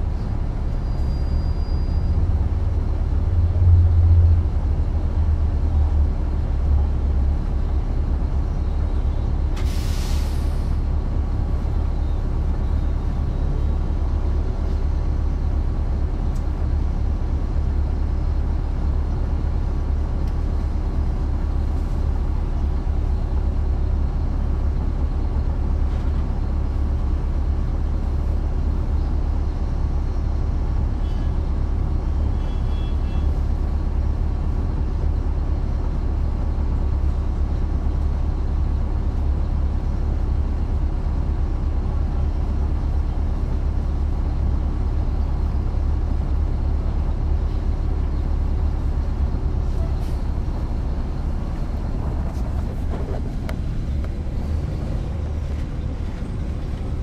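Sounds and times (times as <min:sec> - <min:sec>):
bus diesel engine droning: 0:00.0 - 0:57.0.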